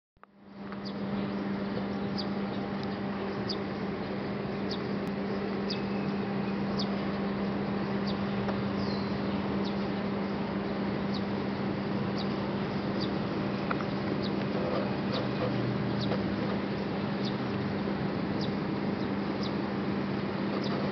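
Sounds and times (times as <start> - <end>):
low hum: 0.2 - 20.9.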